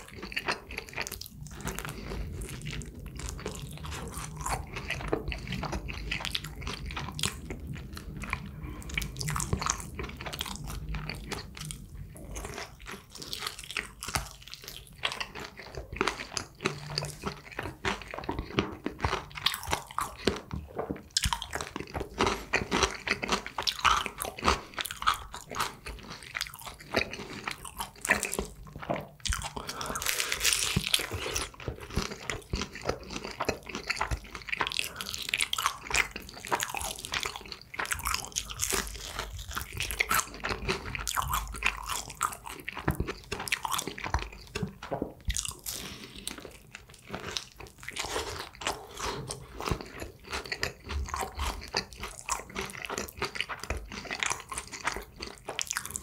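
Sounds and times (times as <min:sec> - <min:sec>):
crunching fried chicken: 0:00.0 - 0:56.0
wet chewing: 0:00.0 - 0:56.0.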